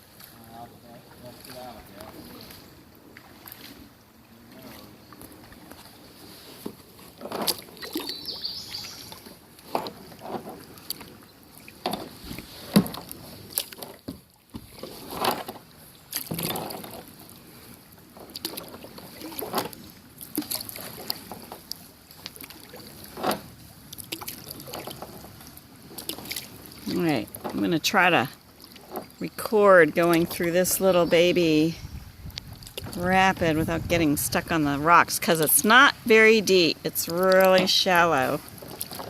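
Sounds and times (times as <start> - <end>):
paddle splashing in water: 0.0 - 39.0.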